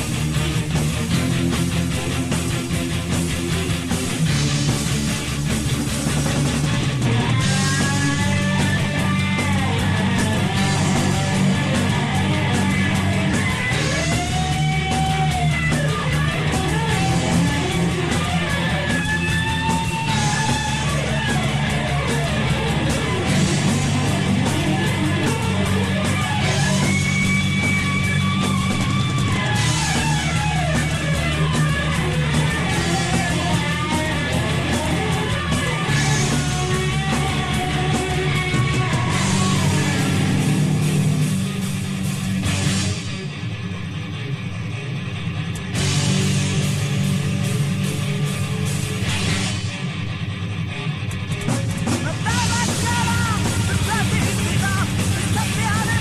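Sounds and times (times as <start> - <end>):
distorted electric guitar lead: 0.0 - 56.0
full band backing: 0.0 - 56.0
power metal song: 0.0 - 56.0.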